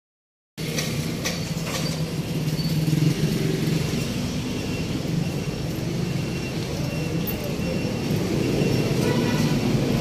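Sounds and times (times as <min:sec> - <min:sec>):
street traffic noise: 0:00.6 - 0:10.0.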